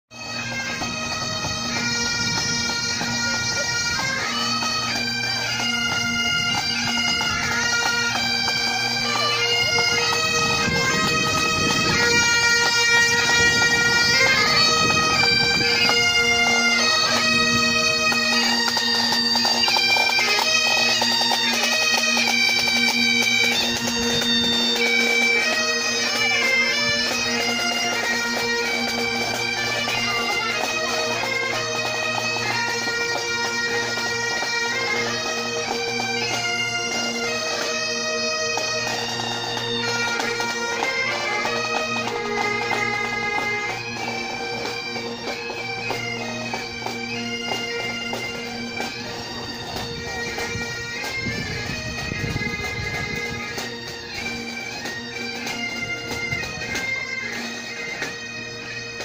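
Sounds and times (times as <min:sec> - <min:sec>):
bagpipes playing a march: 0:00.1 - 0:59.0.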